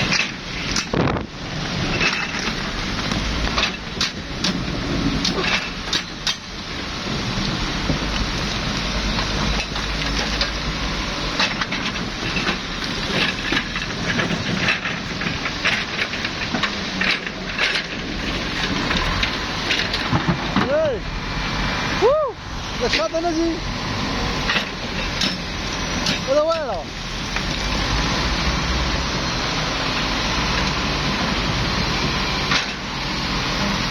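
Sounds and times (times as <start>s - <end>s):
rock and earth crunching: 0.0s - 21.0s, 22.8s - 33.9s
excavator engine rumble: 0.0s - 33.9s.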